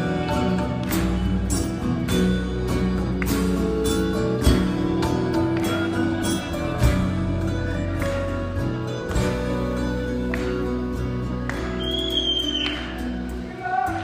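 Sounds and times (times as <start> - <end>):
live rock band instrumental: 0.0 - 14.0.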